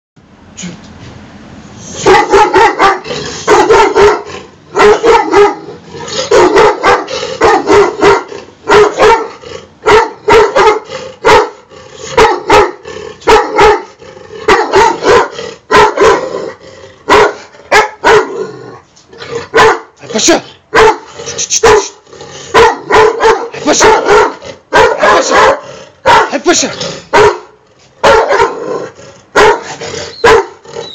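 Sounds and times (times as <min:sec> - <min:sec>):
dog barking: 0:02.0 - 0:16.4, 0:17.1 - 0:18.5, 0:19.5 - 0:20.0, 0:20.7 - 0:30.9.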